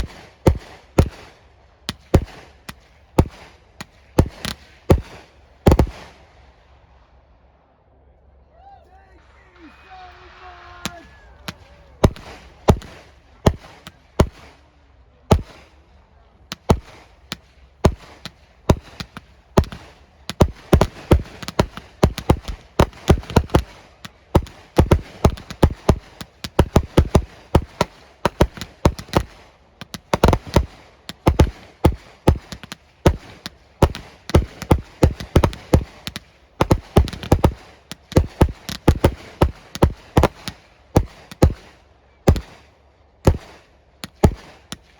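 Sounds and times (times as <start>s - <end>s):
fireworks bangs: 0.0s - 6.2s, 10.8s - 14.6s, 15.3s - 15.8s, 16.5s - 42.7s, 43.3s - 44.9s.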